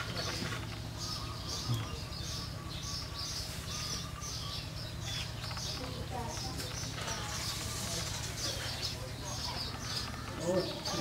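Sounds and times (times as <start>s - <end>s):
birds chirping: 0.0s - 11.0s
low outdoor hum: 0.0s - 11.0s.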